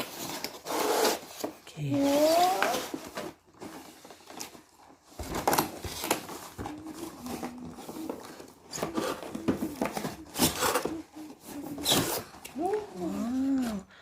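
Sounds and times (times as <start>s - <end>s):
packaging rustling and scraping: 0.0s - 13.9s.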